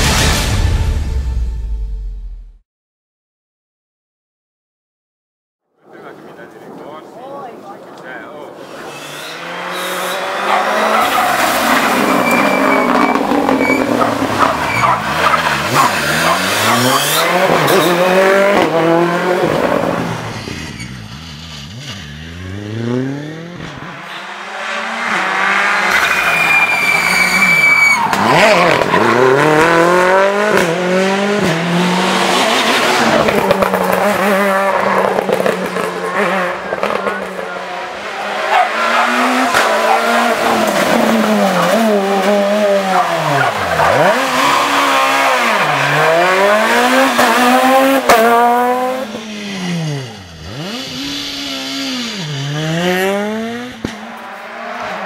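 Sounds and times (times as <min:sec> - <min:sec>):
rally car engines revving: 0:05.9 - 0:55.0.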